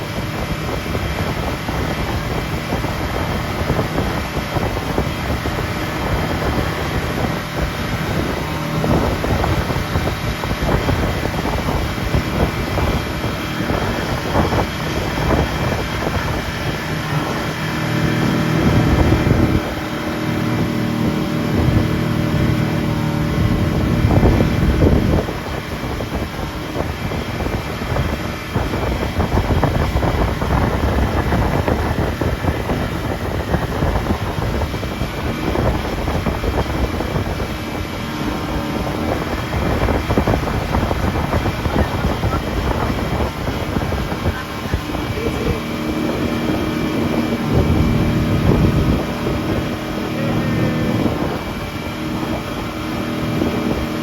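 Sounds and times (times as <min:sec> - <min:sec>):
outboard motor running: 0:00.0 - 0:54.0
wind buffeting microphone: 0:00.0 - 0:54.0.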